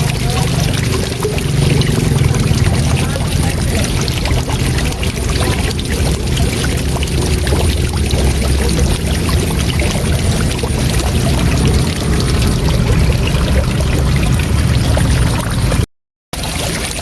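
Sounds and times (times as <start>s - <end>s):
waterfall rushing: 0.0s - 15.8s.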